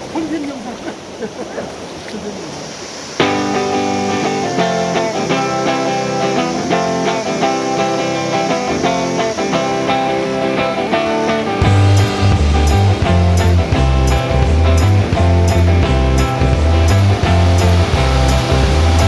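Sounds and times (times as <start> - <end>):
steady noise: 2.7 - 19.0
plucked string music: 3.2 - 19.0.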